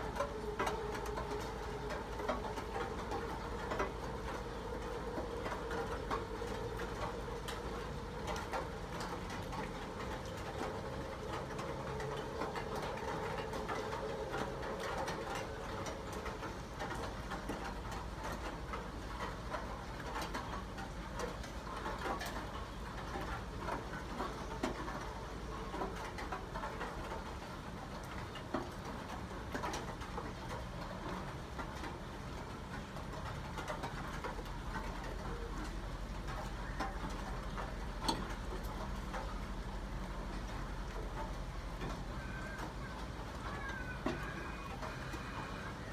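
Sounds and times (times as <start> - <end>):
rain pattering on hard surfaces: 0.0 - 45.9.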